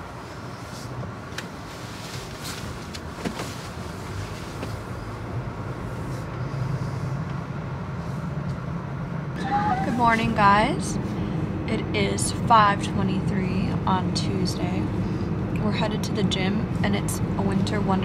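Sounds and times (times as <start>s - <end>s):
car engine and tyre hum: 0.0s - 18.0s.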